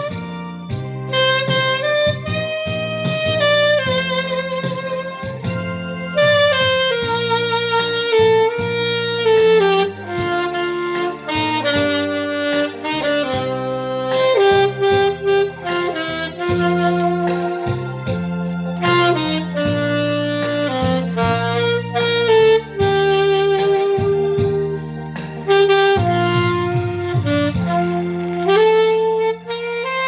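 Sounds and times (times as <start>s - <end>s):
backing track with beat and bass: 0.0s - 30.0s
saxophone melody: 0.0s - 30.0s.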